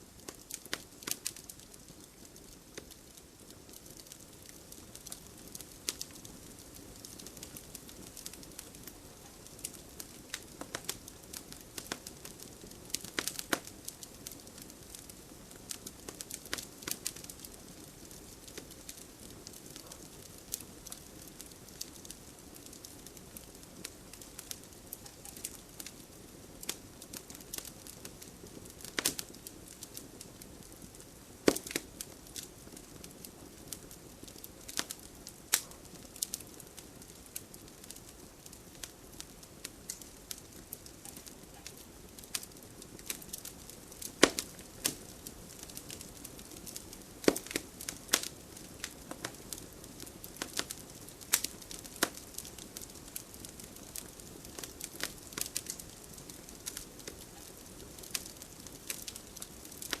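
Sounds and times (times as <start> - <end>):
wood fire crackling and popping: 0.0 - 60.0.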